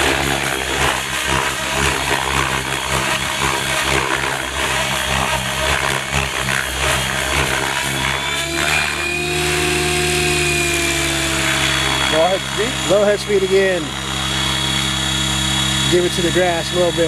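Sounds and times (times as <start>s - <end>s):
rc helicopter motor and rotor whine: 0.0s - 17.0s.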